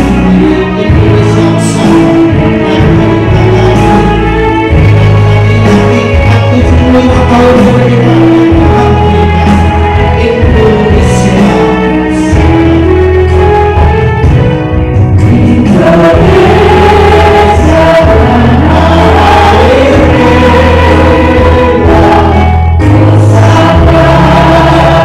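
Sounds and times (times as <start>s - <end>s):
group singing worship song: 0.0s - 25.0s
instrumental accompaniment with bass: 0.0s - 25.0s.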